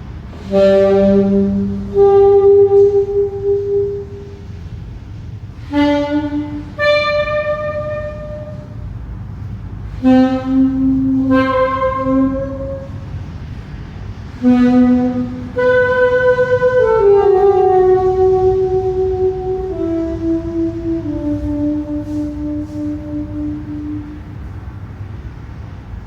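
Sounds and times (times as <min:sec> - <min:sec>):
low steady hum: 0:00.0 - 0:26.0
wind instrument playing held notes: 0:00.1 - 0:25.2.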